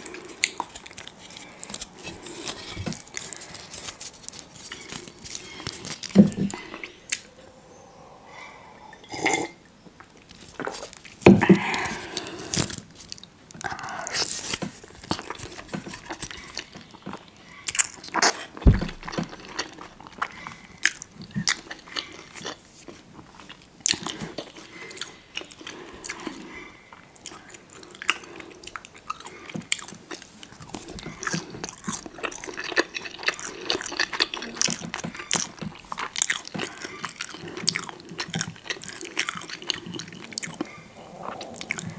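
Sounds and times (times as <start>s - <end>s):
person biting and chewing food: 0.0s - 7.3s, 10.2s - 26.4s, 27.2s - 41.9s.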